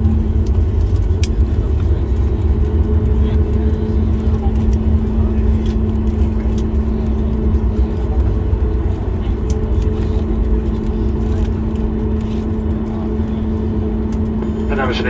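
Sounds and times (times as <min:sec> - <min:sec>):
jet engines humming: 0:00.0 - 0:15.0
loud low rumble: 0:00.0 - 0:15.0.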